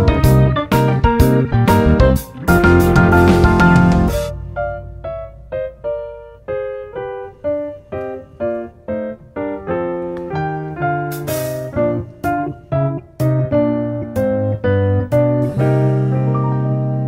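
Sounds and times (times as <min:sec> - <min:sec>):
keyboard melody of single notes: 0:00.0 - 0:17.0.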